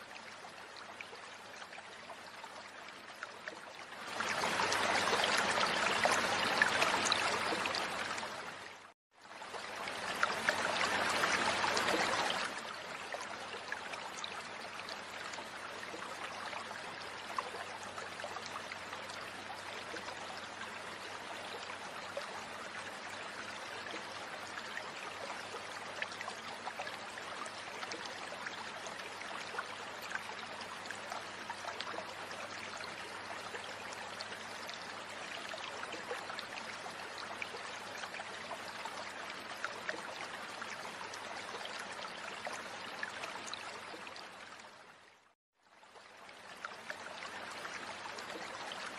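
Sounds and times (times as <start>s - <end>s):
stream flowing: 0.0s - 48.9s.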